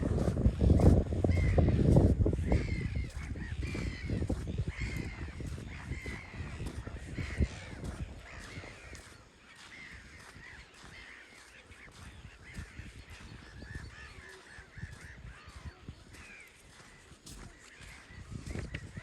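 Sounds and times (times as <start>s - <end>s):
gulls calling: 0.0s - 19.0s.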